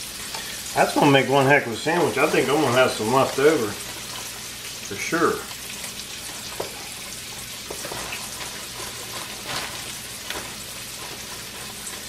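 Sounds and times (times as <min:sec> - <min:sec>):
mushroom frying in hot oil: 0:00.0 - 0:12.0.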